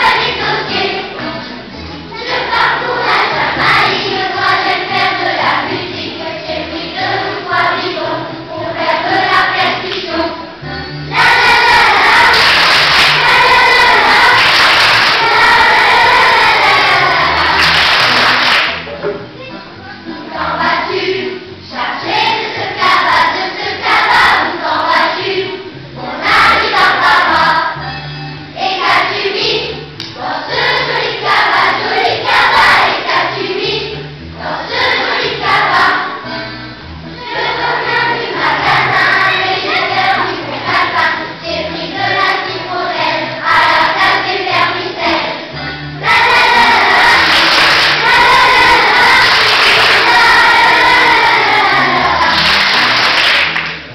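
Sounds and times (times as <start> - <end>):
children's choir singing: 0.0 - 18.9, 20.0 - 36.5, 37.2 - 53.8
musical accompaniment: 0.0 - 53.9.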